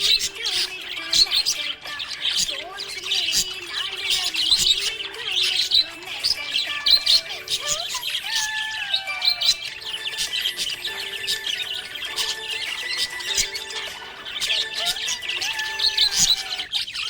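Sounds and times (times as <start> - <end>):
budgerigar chattering: 0.0 - 17.0.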